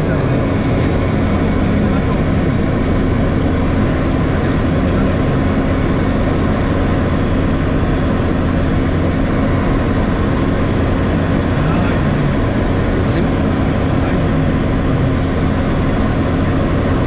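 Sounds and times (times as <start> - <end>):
aircraft engine drone in cabin: 0.0 - 17.0.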